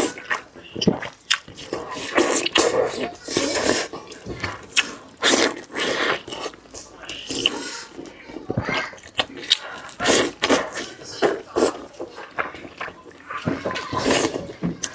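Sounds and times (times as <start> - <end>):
person chewing and smacking: 0.0 - 14.9.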